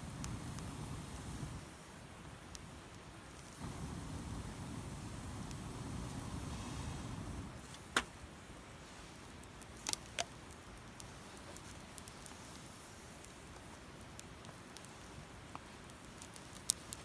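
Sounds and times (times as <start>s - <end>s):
faint steady hiss: 0.0s - 17.0s
fire crackling with sharp pops: 0.0s - 17.0s.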